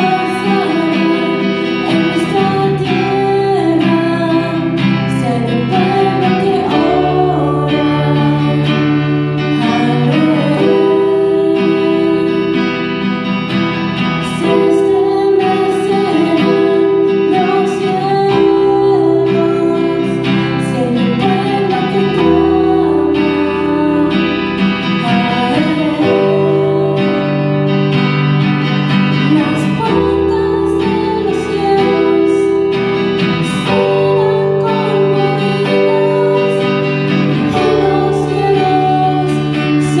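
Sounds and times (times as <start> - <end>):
bass: 0.0 - 40.0
electronic keyboard chords: 0.0 - 40.0
guitar accompaniment: 0.0 - 40.0
woman singing into a microphone: 0.0 - 40.0.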